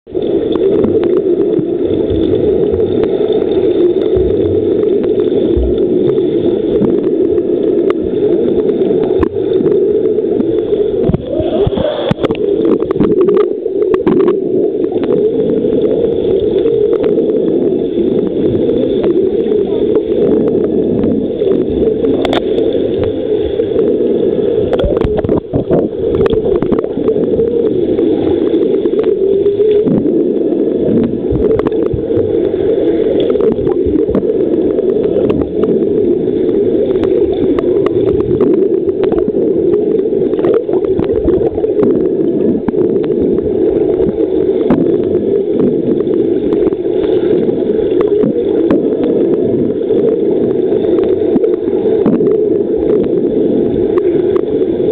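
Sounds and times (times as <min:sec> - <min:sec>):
muffled underwater rushing and bubbling: 0:00.0 - 0:54.9.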